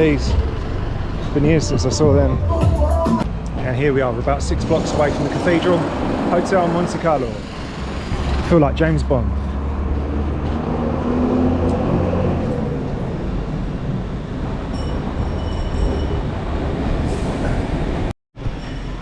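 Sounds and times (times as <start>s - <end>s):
heavy vehicle engine rumble: 0.0s - 18.1s
street traffic: 0.0s - 18.1s.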